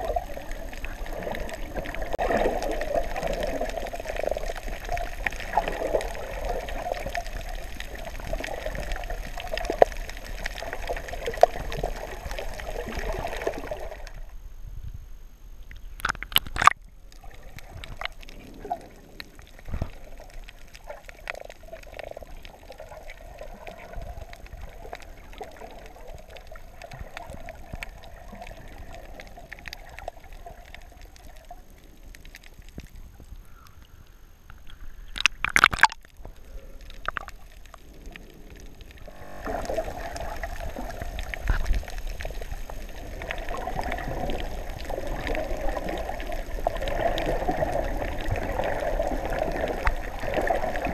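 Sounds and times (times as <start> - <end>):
water sloshing and gurgling: 0.0 - 14.4, 15.6 - 50.9.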